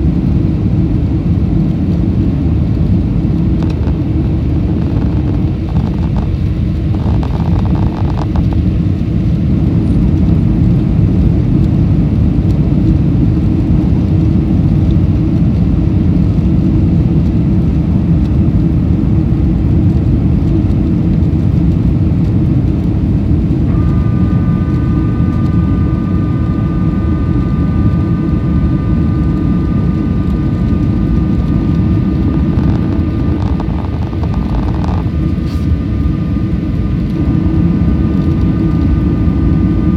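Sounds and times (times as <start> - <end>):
airplane cabin rumble: 0.0 - 39.9
high engine whine: 0.0 - 39.9.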